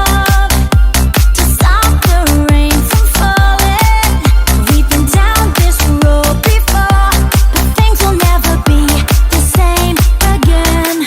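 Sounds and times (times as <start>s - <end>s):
kick drum beat: 0.0s - 11.0s.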